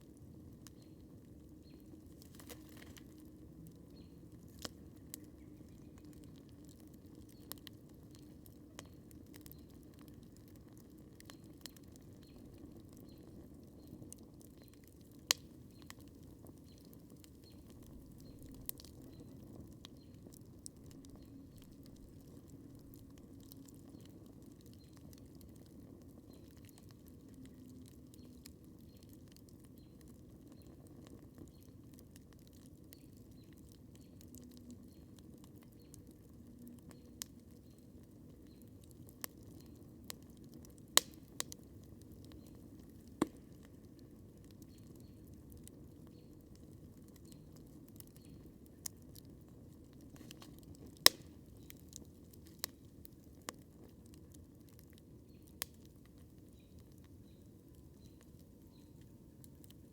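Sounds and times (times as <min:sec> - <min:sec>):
campfire crackling: 0:00.0 - 0:59.9
fire popping: 0:00.0 - 0:59.9.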